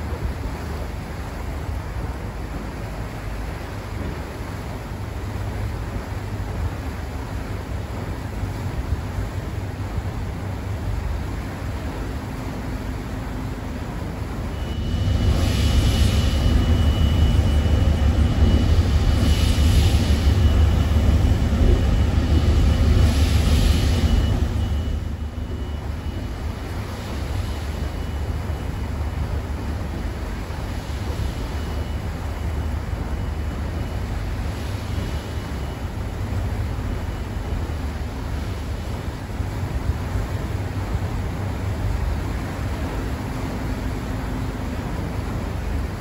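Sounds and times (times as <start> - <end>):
paddlewheel churning water: 0.0 - 46.0
thin steady whine: 0.0 - 46.0.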